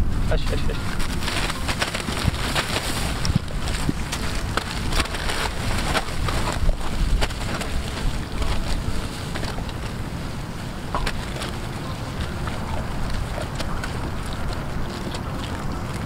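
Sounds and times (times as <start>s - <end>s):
wind buffeting microphone: 0.0s - 16.0s
dogs rustling while feeding: 0.4s - 16.0s.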